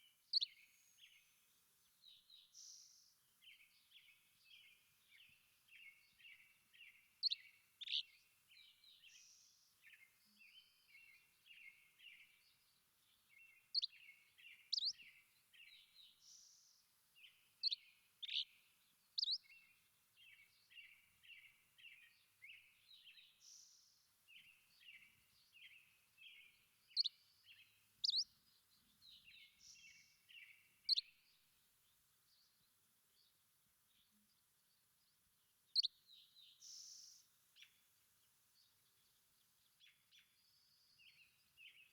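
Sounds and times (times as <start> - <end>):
songbirds twittering: 0.0 - 41.9.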